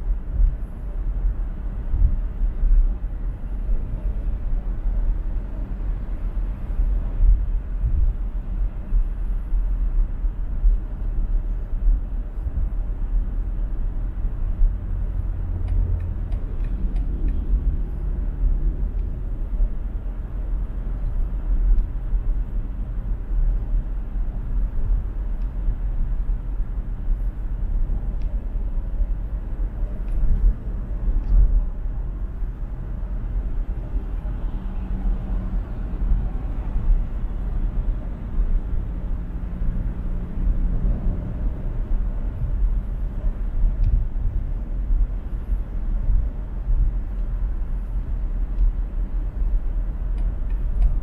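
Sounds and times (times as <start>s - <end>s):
road and tyre rumble: 0.0s - 51.0s.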